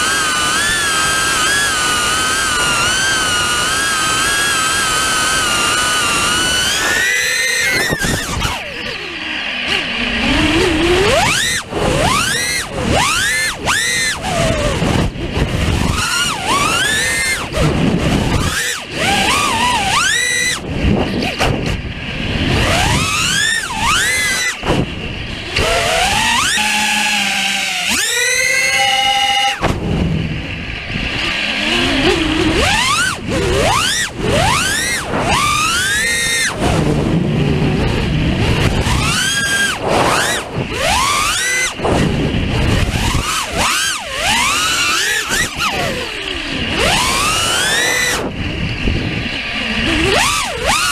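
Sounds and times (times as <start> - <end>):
quadcopter motors whining: 0.0 - 50.9
rushing propeller and air noise: 0.0 - 50.9.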